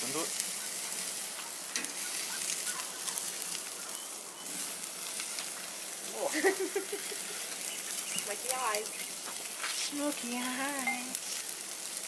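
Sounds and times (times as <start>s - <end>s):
crackles and pops from coals: 0.0s - 12.0s
steaks sizzling on a grill: 0.0s - 12.0s.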